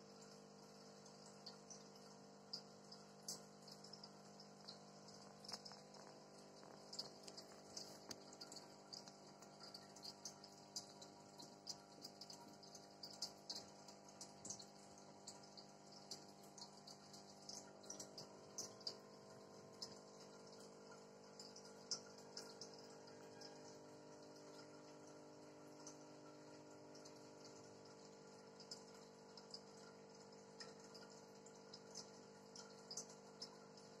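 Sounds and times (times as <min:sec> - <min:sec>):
aquarium air stone bubbling: 0:00.0 - 0:34.0
electric hum of aquarium equipment: 0:00.0 - 0:34.0.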